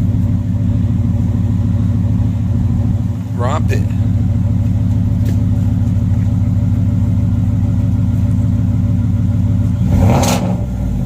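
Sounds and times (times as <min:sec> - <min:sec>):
truck engine exhaust rumble: 0:00.0 - 0:11.0.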